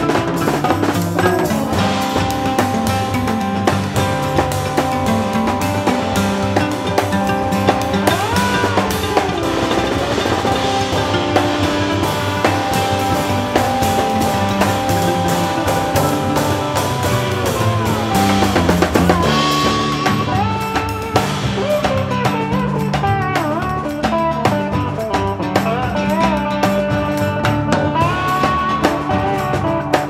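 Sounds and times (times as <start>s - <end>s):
lap steel guitar sliding notes: 0.0s - 30.0s
steady drum beat: 0.0s - 30.0s
upright bass: 0.0s - 30.0s.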